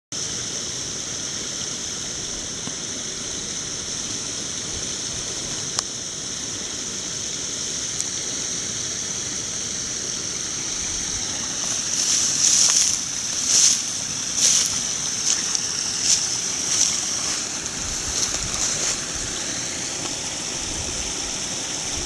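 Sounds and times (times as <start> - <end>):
brook babbling: 0.2 - 22.0.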